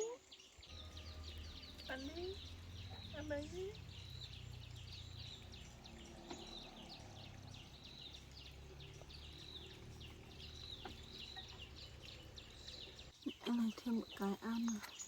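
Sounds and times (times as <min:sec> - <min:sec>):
faint high bird chirps: 0:00.0 - 0:15.0
low steady rumble: 0:00.7 - 0:13.1.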